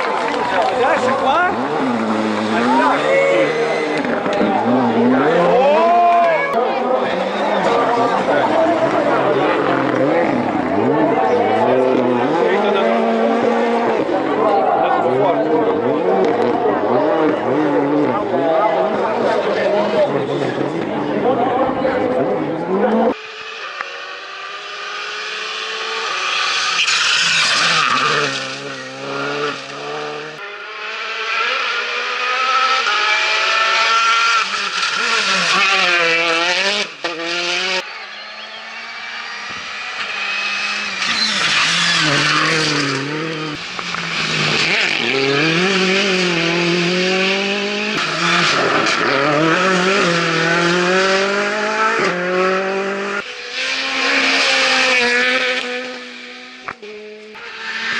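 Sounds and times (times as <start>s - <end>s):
rally car engines revving high: 0.0s - 57.9s.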